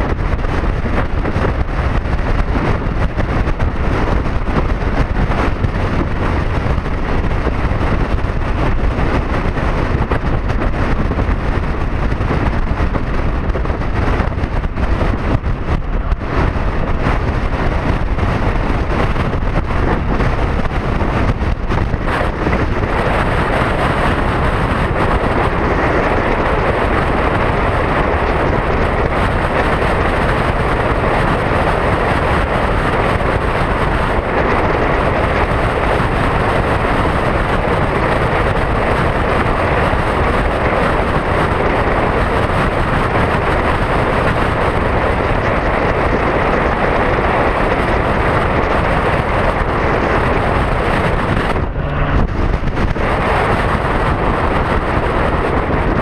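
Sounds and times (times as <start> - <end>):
motorcycle low rumble: 0.0 - 56.0
wind and road noise: 0.0 - 56.0.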